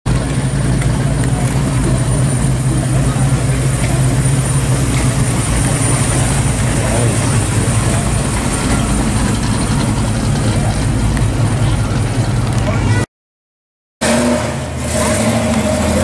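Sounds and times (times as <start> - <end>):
car engine idling: 0.1 - 13.0, 14.0 - 16.0.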